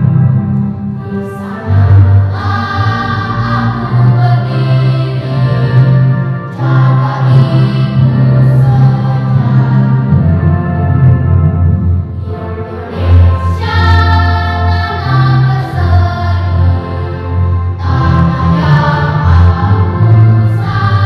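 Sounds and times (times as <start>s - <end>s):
children's choir singing: 0.9s - 10.7s, 12.2s - 21.0s.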